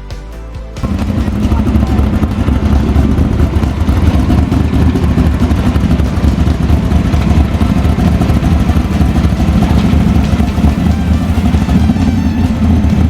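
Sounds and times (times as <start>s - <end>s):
car engine idling with exhaust rumble: 0.8s - 13.0s.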